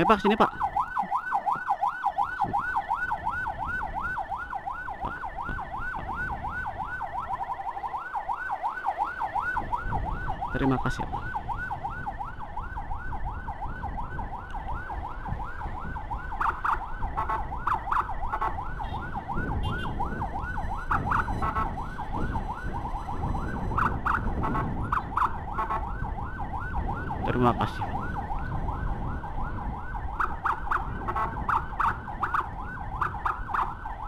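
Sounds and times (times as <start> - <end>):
second siren tone bursts: 0.0 - 27.3
engine and traffic rumble: 0.0 - 34.0
siren fast yelp wail: 0.0 - 34.0.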